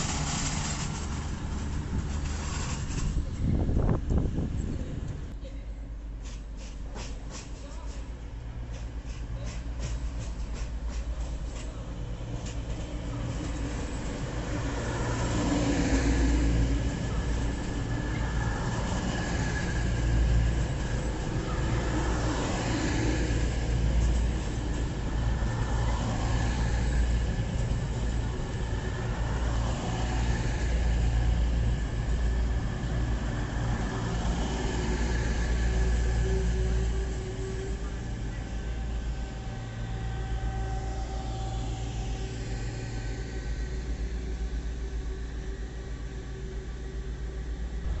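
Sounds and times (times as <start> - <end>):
diesel train engine rumble: 0.0 - 48.0.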